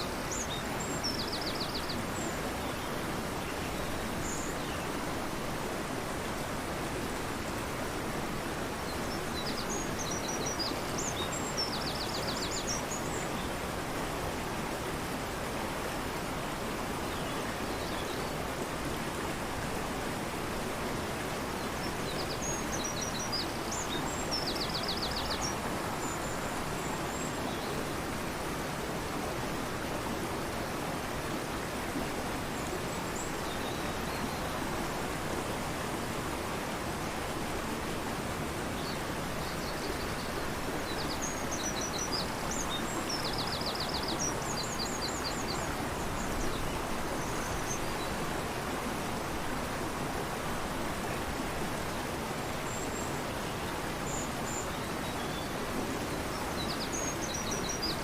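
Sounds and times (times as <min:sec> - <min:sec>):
fast-flowing river rushing: 0:00.0 - 0:58.0.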